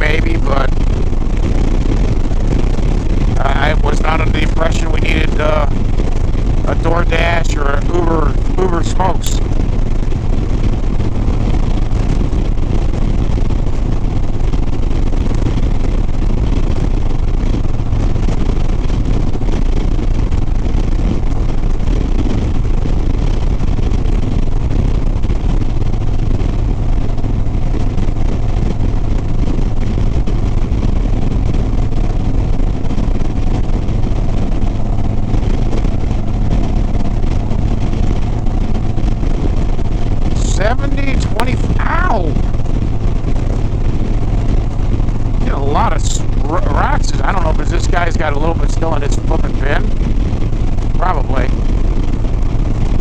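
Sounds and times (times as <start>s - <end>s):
motorcycle engine cruising: 0.0s - 53.0s
road noise: 0.0s - 53.0s
wind noise: 0.0s - 53.0s.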